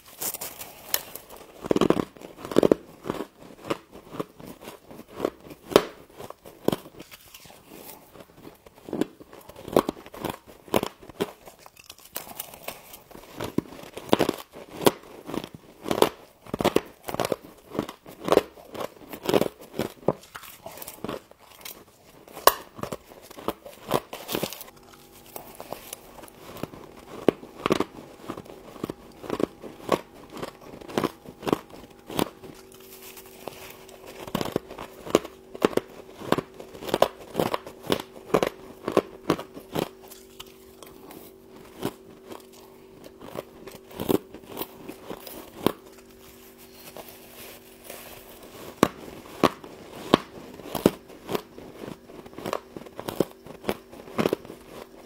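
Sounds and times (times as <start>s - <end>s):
crunchy chewing of frost: 0.0s - 55.0s
faint steady hum: 0.0s - 55.0s.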